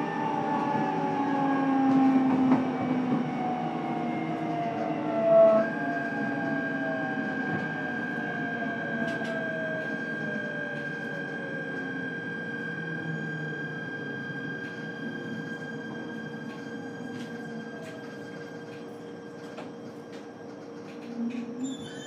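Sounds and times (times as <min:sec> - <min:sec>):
train inverter and motors whining: 0:00.0 - 0:22.0.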